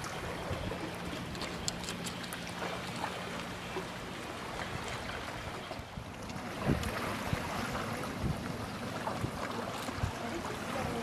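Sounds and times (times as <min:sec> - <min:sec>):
lake water lapping: 0:00.0 - 0:11.0
small water splashes and drips: 0:00.0 - 0:11.0.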